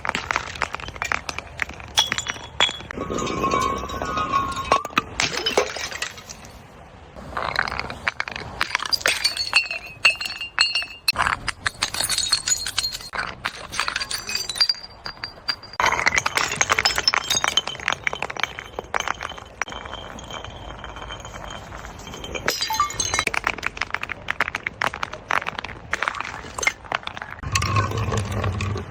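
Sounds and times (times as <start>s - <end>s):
glass bottles breaking: 0.0s - 6.5s, 7.4s - 28.9s.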